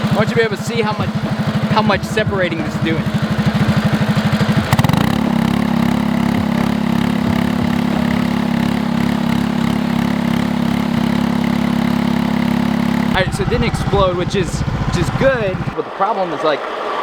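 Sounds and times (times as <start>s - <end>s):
small gasoline engine revving: 0.0s - 15.8s.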